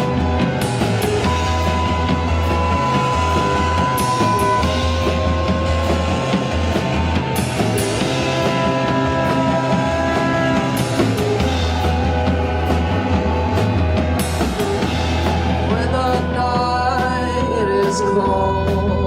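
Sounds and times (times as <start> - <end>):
bass guitar: 0.0 - 19.0
drums: 0.0 - 19.0
long held notes: 0.0 - 19.0.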